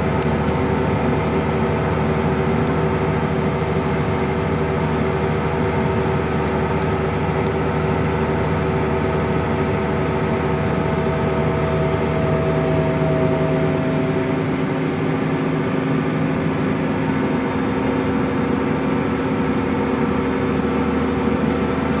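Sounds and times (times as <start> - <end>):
tractor engine drone in cab: 0.0 - 22.0.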